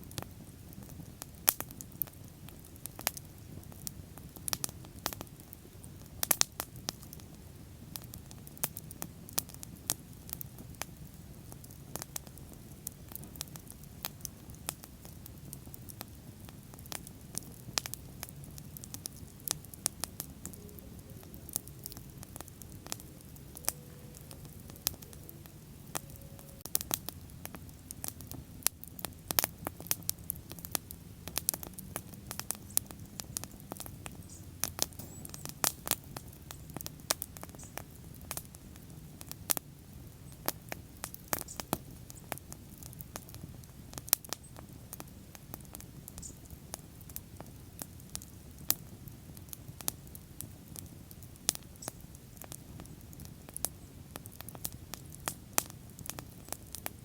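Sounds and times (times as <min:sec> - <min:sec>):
bonfire crackling and popping: 0:00.0 - 0:57.0.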